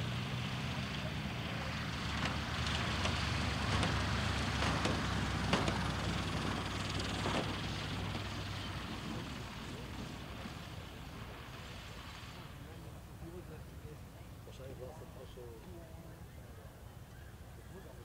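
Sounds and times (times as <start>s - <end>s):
plane engine droning: 0.0s - 18.0s.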